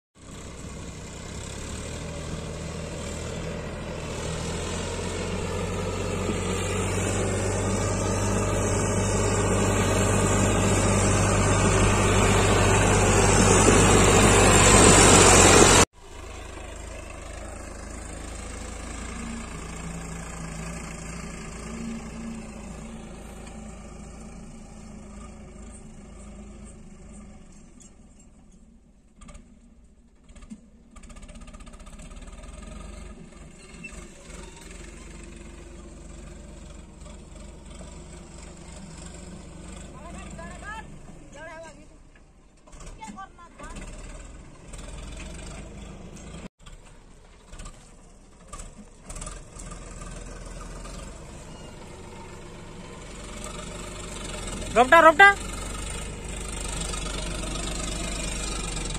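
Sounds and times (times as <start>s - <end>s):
distant tractor pulling trailer: 0.2s - 58.9s
tractor diesel engine approaching: 0.2s - 58.9s.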